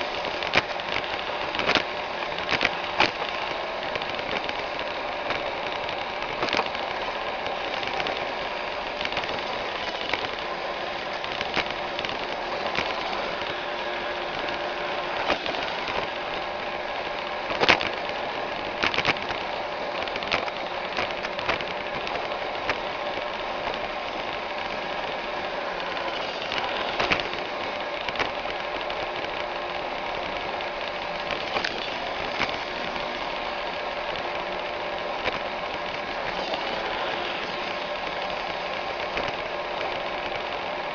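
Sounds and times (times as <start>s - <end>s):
robot vacuum whirring: 0.0s - 40.9s.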